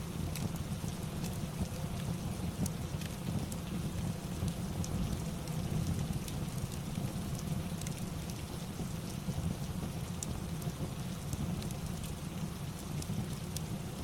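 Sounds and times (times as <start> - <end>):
steady rain: 0.0 - 14.0
faint crackles: 0.2 - 14.0.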